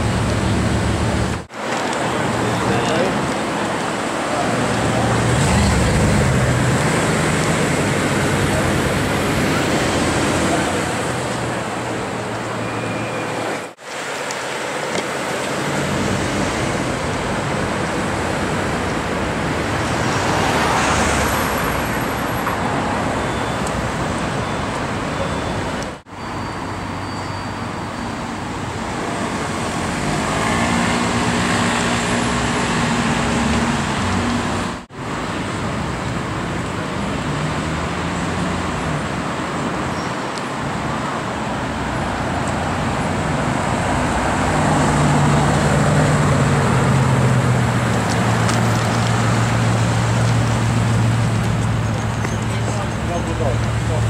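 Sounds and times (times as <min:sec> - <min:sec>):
slow street traffic: 0:00.0 - 0:54.0.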